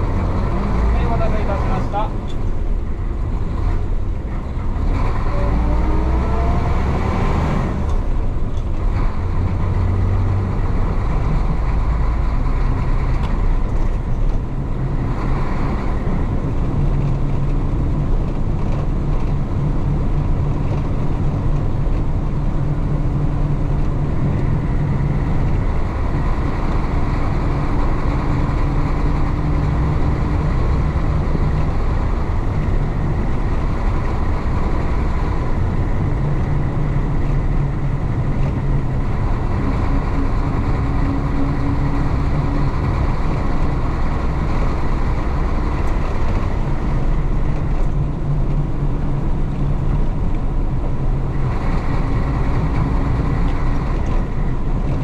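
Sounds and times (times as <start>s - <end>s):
bus diesel engine revving: 0.0s - 55.0s.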